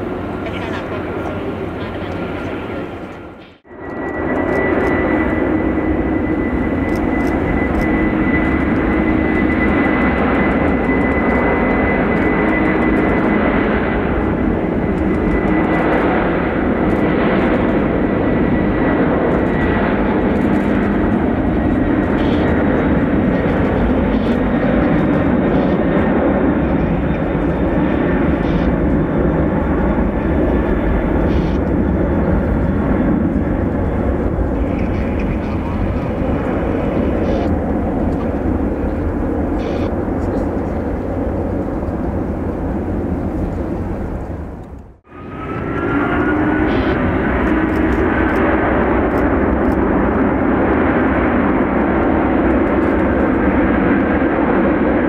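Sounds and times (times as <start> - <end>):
high engine whine: 0.0 - 55.0
jet engines roaring: 0.0 - 55.0.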